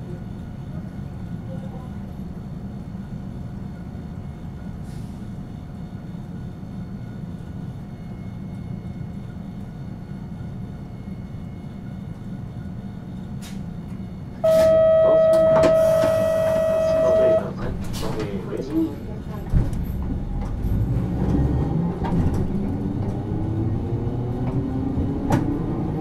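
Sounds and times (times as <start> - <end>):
streetcar rumbling along track: 0.0 - 26.0.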